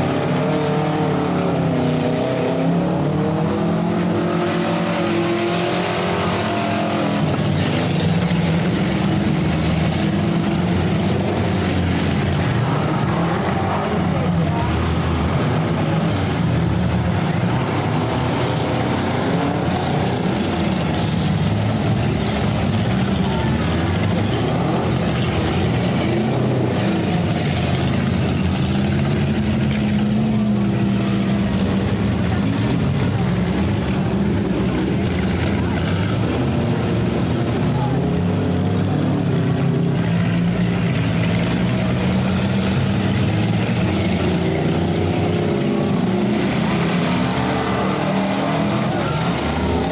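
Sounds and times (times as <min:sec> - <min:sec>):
car engines droning: 0:00.0 - 0:49.9.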